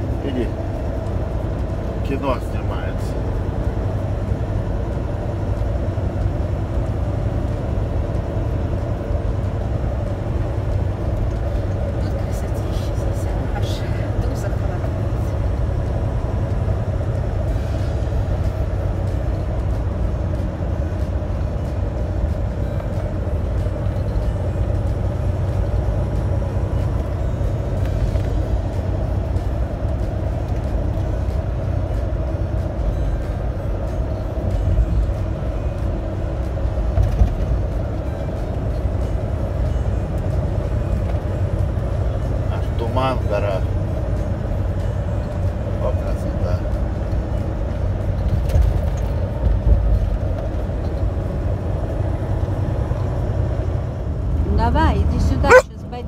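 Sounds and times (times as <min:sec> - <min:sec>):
truck engine drone: 0:00.0 - 0:56.0
tyres on road: 0:00.0 - 0:56.0.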